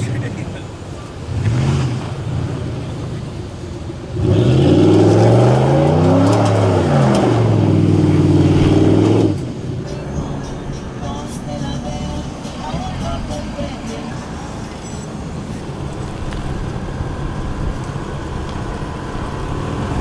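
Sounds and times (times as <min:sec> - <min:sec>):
low engine rumble: 0:00.0 - 0:20.0
truck engine revving: 0:01.2 - 0:20.0.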